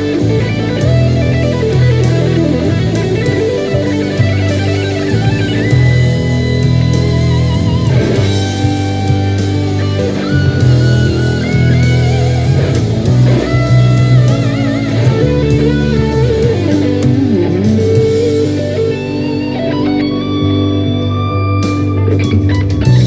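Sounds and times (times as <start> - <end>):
electric guitar lead lines: 0.0 - 23.0.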